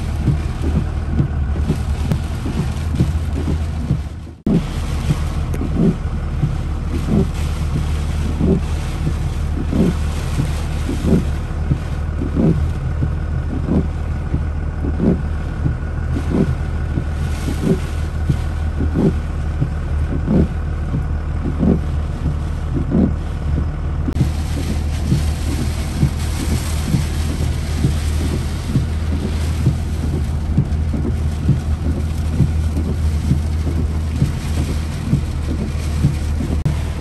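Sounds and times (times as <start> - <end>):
engine and road hum: 0.0 - 37.0
rain hissing on windshield: 0.0 - 37.0
windshield wipers thumping: 0.0 - 37.0.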